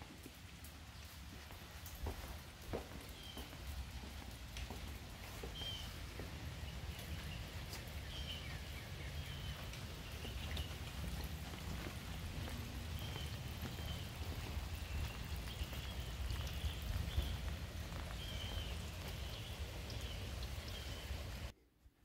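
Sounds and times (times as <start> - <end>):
rain on pavement and shrubs: 0.0 - 21.5.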